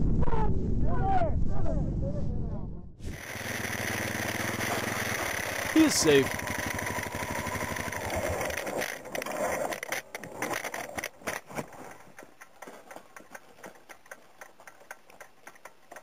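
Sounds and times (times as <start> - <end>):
motorcycle engine at low revs: 3.0 - 16.0.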